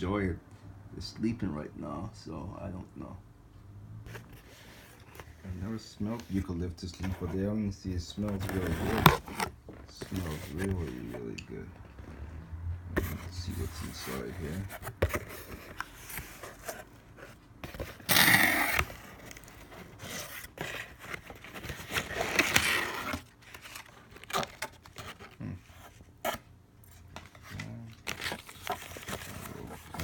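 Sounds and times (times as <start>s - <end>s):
packaging scraping and rustling: 4.1s - 12.2s, 13.0s - 30.0s.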